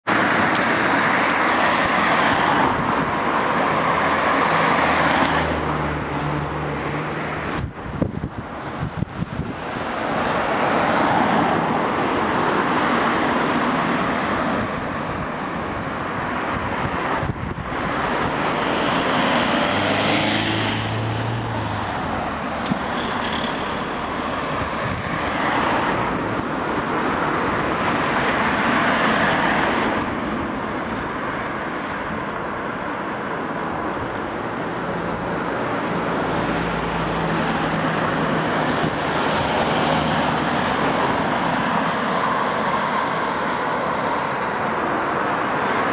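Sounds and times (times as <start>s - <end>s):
cars passing: 0.0s - 45.9s.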